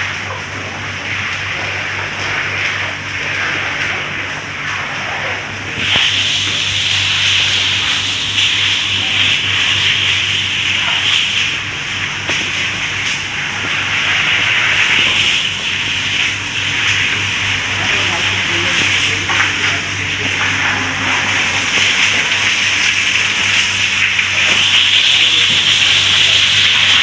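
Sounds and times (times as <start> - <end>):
low electric motor hum: 0.0 - 27.0
steady hiss: 0.3 - 27.0.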